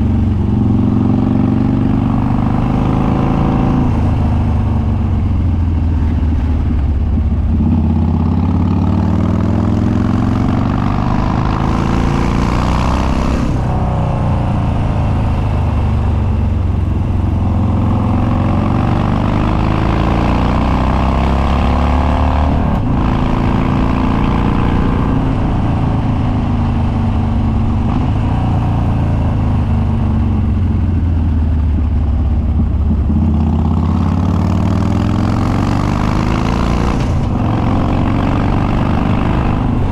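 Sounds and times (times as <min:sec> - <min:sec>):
loud motorcycle engine revving: 0:00.0 - 0:05.2, 0:07.4 - 0:30.5, 0:32.6 - 0:39.9.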